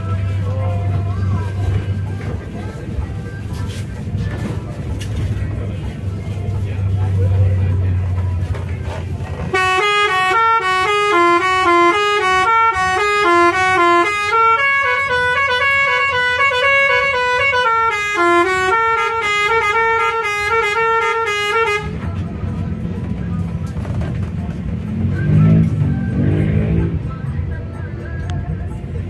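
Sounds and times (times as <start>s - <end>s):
multi-tone bus horn melody: 0.0s - 23.0s, 24.8s - 27.7s
engine and road rumble: 0.0s - 29.0s.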